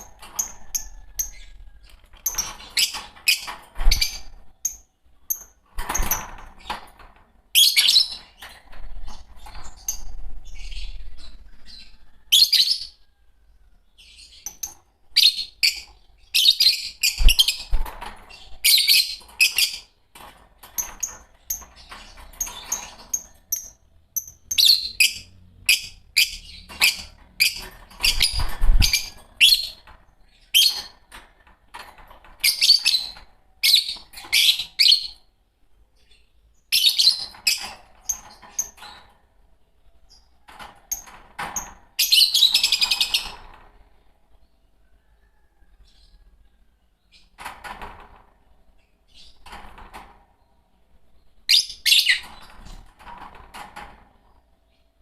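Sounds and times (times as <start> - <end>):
lovebirds chirping: 0.0 - 31.3, 32.4 - 47.5, 48.7 - 49.6, 50.4 - 52.9.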